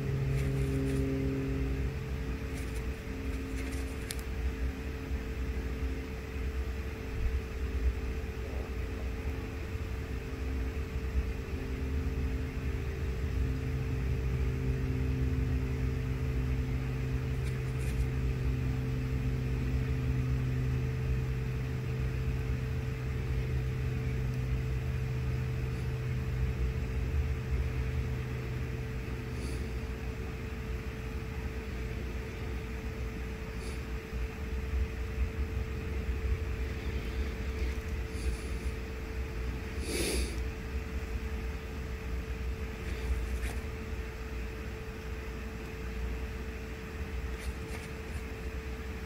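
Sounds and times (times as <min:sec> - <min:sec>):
deeper hum: 0:00.0 - 0:49.0
steady hum with low rumble: 0:00.0 - 0:49.0.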